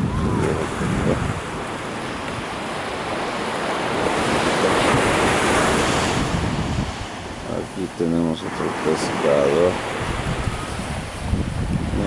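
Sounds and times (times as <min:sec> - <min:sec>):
surf washing on shore: 0:00.0 - 0:12.0
wind buffeting microphone: 0:00.0 - 0:12.0.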